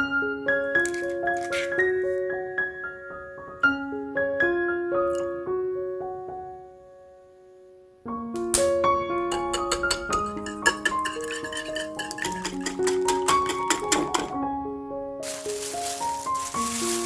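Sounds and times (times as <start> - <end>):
gentle piano melody: 0.0 - 11.4, 12.1 - 17.0.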